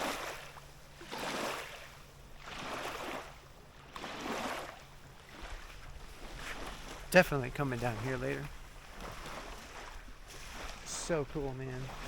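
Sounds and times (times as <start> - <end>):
small waves lapping at shore: 0.0 - 12.0.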